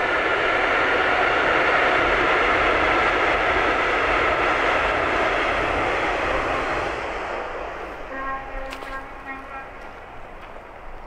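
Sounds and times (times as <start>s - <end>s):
train rushing over viaduct: 0.0s - 11.0s.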